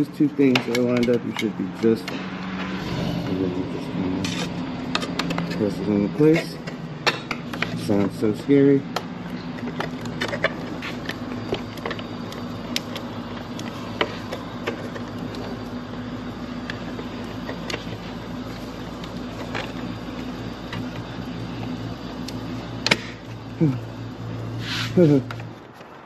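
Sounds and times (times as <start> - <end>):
low hum: 1.6 - 26.0.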